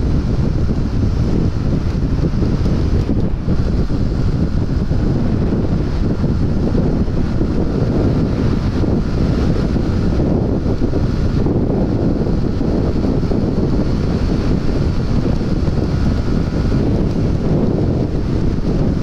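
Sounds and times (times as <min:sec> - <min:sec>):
wind rumble buffeting microphone: 0:00.0 - 0:19.0.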